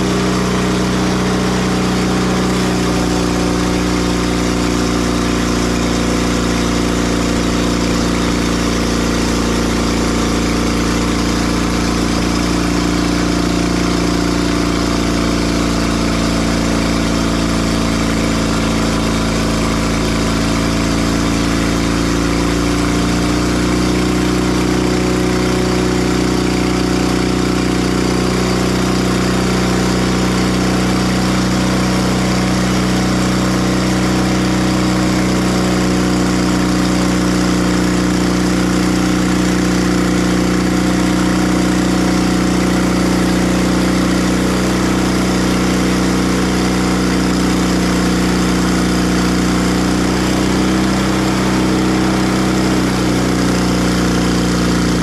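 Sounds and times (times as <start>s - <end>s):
bandsaw cutting log: 0.0s - 55.0s
sawmill engine running: 0.0s - 55.0s.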